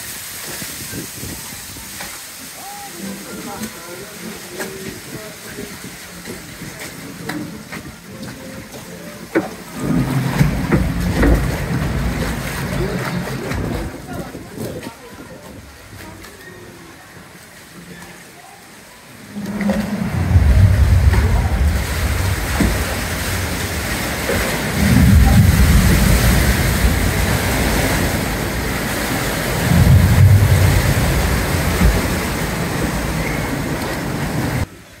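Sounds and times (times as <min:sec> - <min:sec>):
water rushing and splashing: 0:00.0 - 0:35.0.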